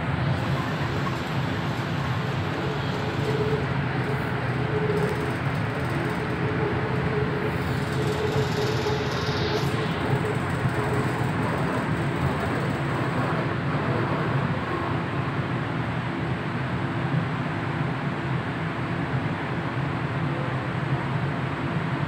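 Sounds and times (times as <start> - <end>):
high train whine: 0.0 - 22.0
train wheels and motors rumbling: 0.0 - 22.0.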